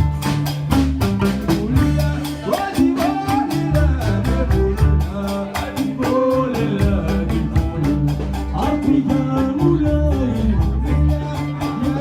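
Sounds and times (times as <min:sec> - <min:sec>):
deep plucked bass line: 0:00.0 - 0:12.0
person singing: 0:01.0 - 0:12.0.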